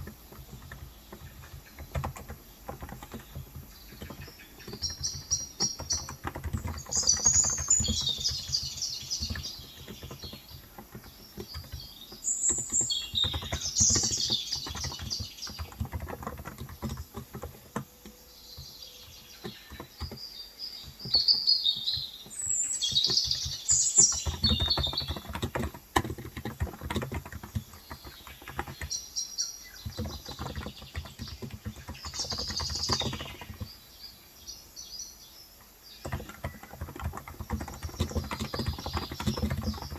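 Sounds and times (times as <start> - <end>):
keyboard keys clicking: 0.0 - 33.8, 35.9 - 39.9
birds twittering: 0.0 - 39.9.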